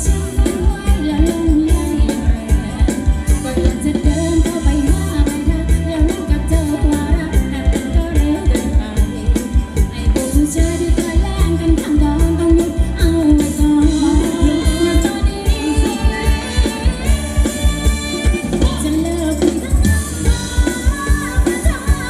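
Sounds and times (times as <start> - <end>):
fast drum beat: 0.0 - 22.0
live dance band music: 0.0 - 22.0
person singing: 0.0 - 22.0.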